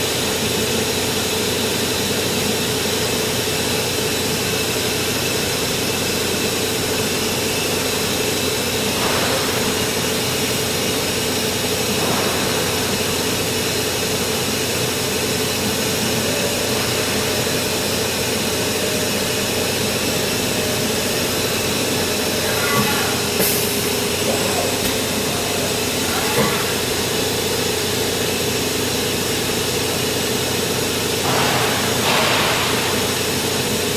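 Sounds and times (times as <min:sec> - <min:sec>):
cnc machine milling hum: 0:00.0 - 0:33.9.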